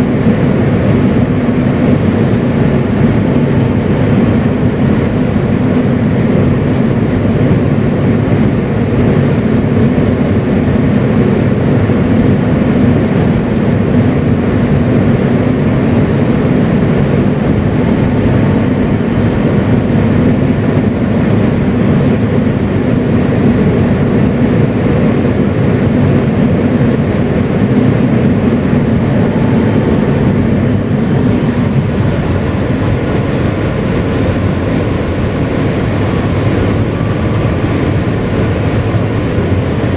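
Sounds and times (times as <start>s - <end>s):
subway car wheel and motor noise: 0.0s - 39.9s.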